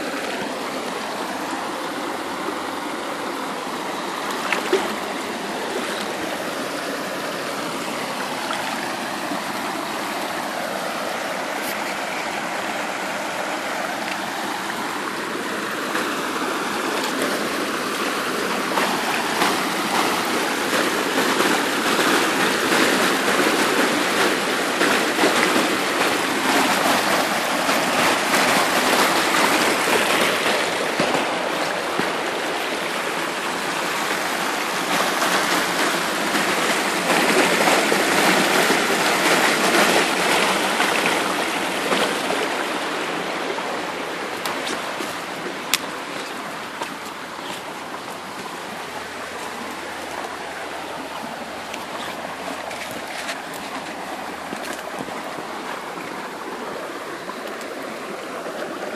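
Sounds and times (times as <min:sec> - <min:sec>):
creek water over rocks: 0:00.0 - 0:58.9.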